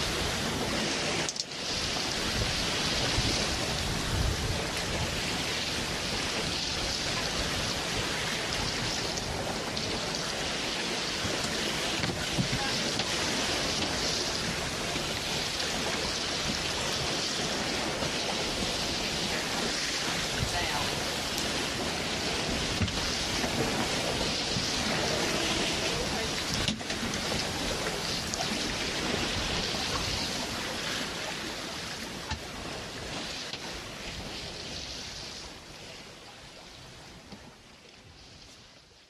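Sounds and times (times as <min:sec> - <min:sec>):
waves washing: 0:00.0 - 0:39.0
wind: 0:00.0 - 0:39.0.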